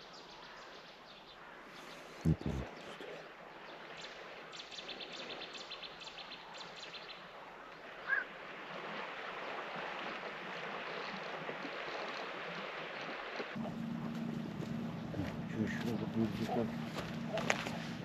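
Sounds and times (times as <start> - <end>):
rushing water: 0.0 - 18.0
wind: 0.0 - 18.0.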